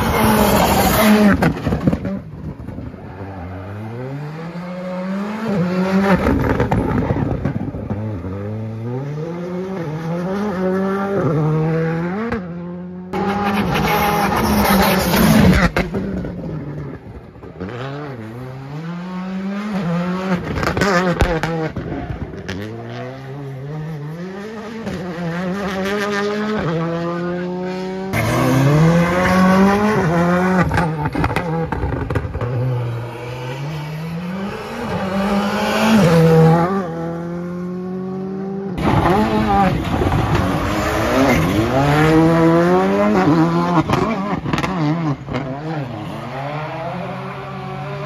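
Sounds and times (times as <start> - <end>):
rally car engine revving: 0.0 - 48.0.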